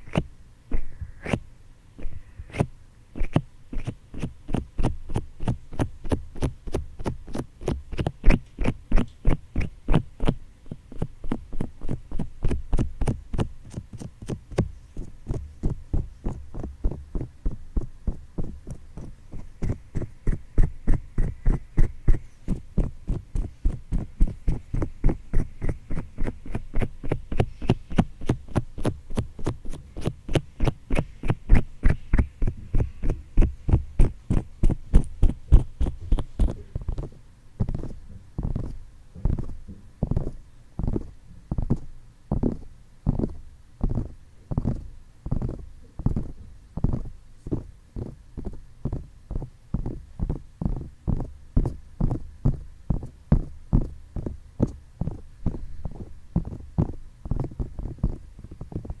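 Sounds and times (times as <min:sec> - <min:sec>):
fingertips tapping on microphone: 0:02.0 - 0:59.0.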